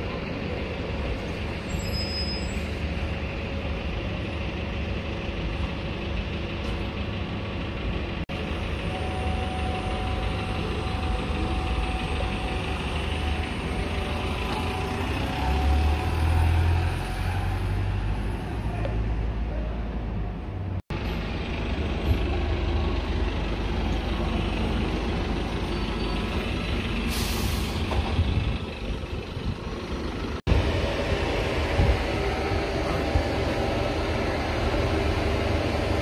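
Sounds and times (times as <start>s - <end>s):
bus engines rumbling: 0.0s - 36.0s.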